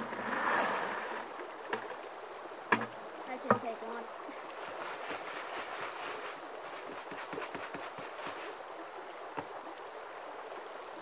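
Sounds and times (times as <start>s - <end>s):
creek running: 0.0s - 11.0s.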